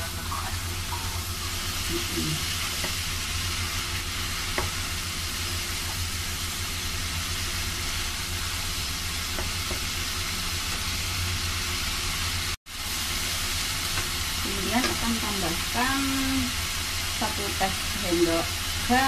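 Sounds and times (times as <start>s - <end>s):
radish sizzling in a wok: 0.0s - 19.0s.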